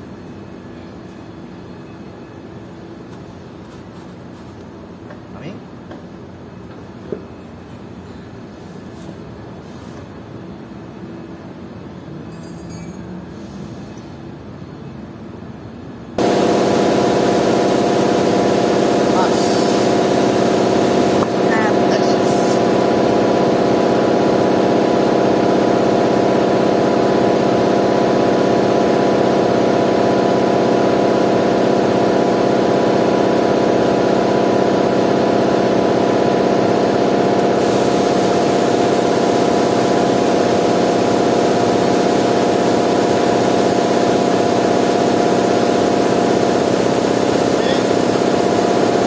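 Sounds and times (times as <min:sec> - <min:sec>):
machine humming with hiss: 0:00.0 - 0:49.0.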